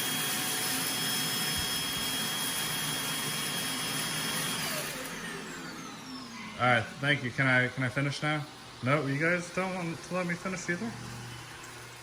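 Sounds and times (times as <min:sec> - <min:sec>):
robot vacuums whirring: 0:00.0 - 0:12.0.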